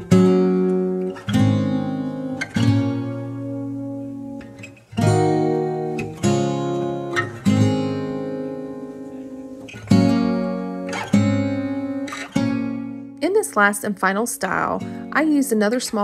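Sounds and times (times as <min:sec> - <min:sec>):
guitar strumming chords: 0:00.0 - 0:16.0.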